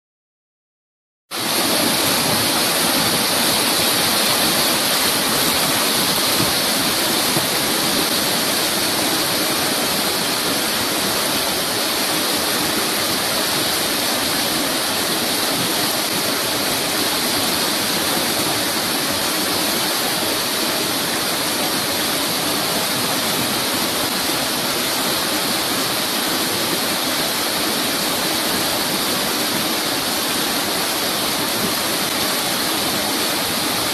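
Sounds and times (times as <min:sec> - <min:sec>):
river rapids rushing over rocks: 0:01.4 - 0:33.9.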